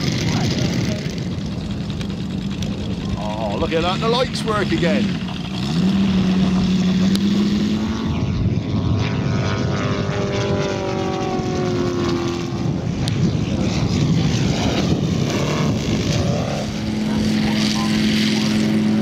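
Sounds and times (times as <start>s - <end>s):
model plane engine droning: 0.0s - 19.0s.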